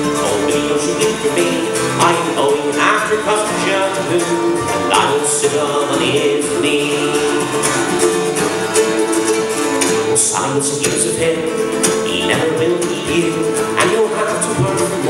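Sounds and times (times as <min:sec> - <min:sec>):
bowed fiddle: 0:00.0 - 0:15.0
plucked mandolin: 0:00.0 - 0:15.0
strummed acoustic guitar: 0:00.0 - 0:15.0.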